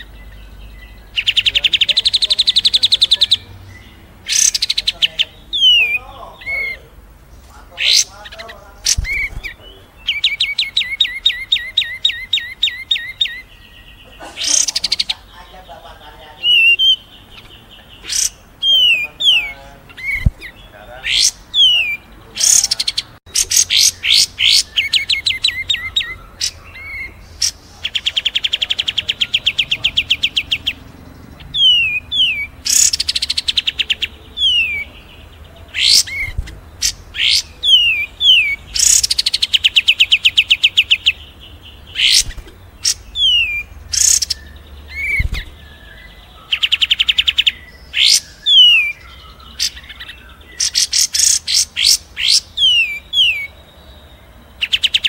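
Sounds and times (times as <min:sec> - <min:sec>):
fast rattling bird trills: 0:00.0 - 0:53.6
songbird chirps: 0:00.0 - 0:55.0.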